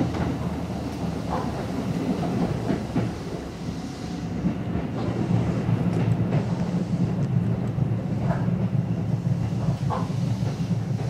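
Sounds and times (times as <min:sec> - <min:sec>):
electric train hum and rumble: 0:00.0 - 0:11.0.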